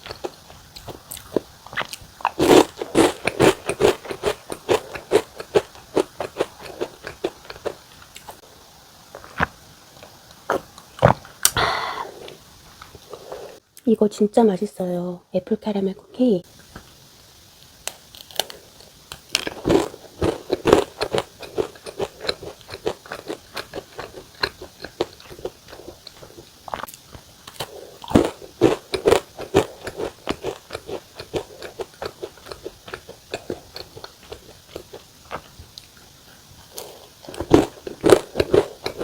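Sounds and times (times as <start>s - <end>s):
cookie crunching being chewed: 0.0s - 8.4s, 9.1s - 13.6s, 17.8s - 39.0s.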